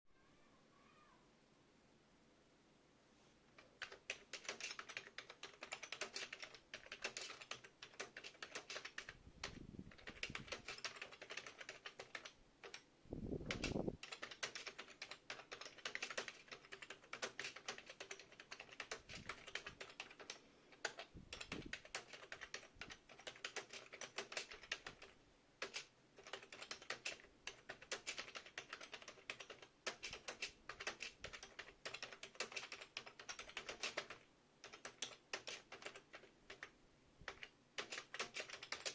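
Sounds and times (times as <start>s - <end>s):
fast typing on keyboard: 3.6s - 38.9s.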